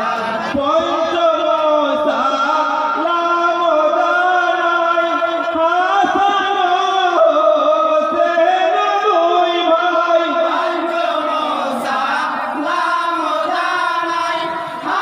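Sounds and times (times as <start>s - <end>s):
men's chorus singing: 0.0s - 15.0s.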